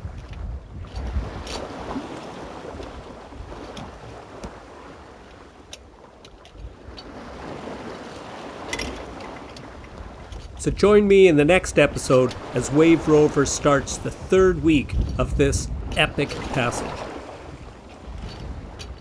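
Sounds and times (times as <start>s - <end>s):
wind on microphone: 0.0s - 5.2s, 6.6s - 19.0s
water sloshing along hull: 0.0s - 19.0s.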